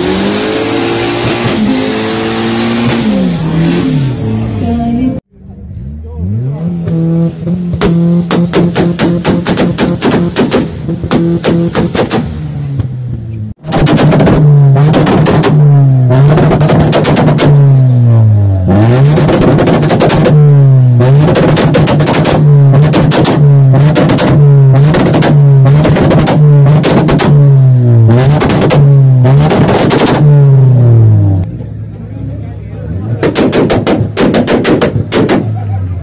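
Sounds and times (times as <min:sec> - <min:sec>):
car engine revving hard: 0:00.0 - 0:05.0, 0:05.7 - 0:12.9, 0:13.5 - 0:31.5, 0:32.8 - 0:36.0
exhaust crackling: 0:00.0 - 0:36.0.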